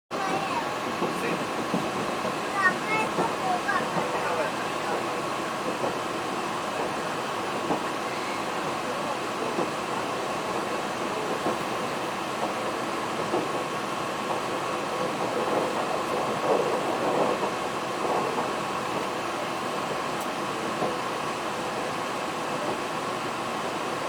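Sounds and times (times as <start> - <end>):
railcar wheels and engine rumble: 0.1 - 24.0.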